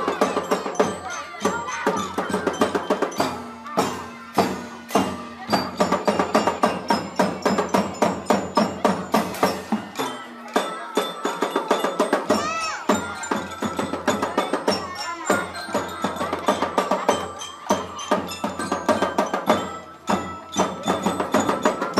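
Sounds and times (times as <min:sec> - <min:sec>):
fast drum beat: 0:00.0 - 0:21.9.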